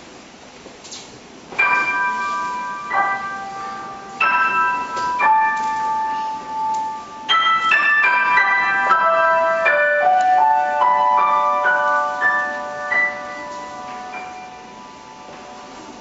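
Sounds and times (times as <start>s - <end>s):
grand piano chords: 1.5s - 16.0s.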